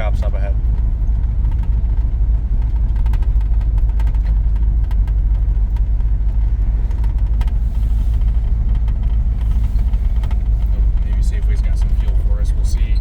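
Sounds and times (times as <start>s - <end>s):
low road rumble: 0.0s - 13.0s
pickup engine running: 0.0s - 13.0s.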